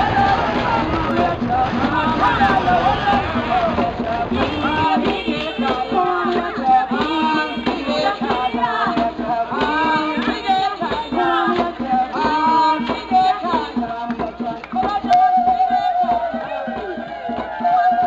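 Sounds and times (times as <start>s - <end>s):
held melody line: 0.0s - 18.0s
percussion: 0.0s - 18.0s.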